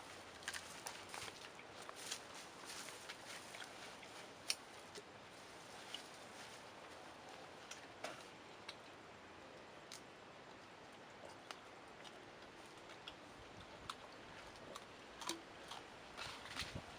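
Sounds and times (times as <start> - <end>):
low steady hiss: 0.0 - 16.9
clicks and crunches of chewing: 0.3 - 5.1, 7.3 - 16.8.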